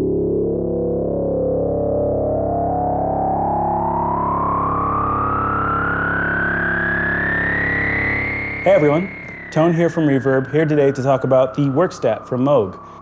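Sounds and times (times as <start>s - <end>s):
synthesizer drone: 0.0s - 13.0s.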